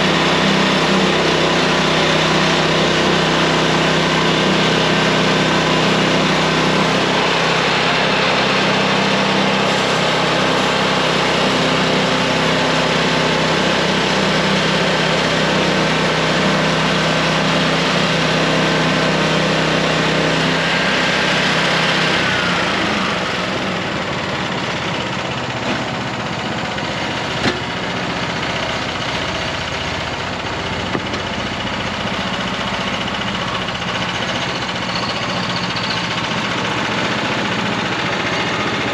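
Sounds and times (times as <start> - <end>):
engine whine: 0.0 - 38.9
gas engine running: 0.0 - 38.9.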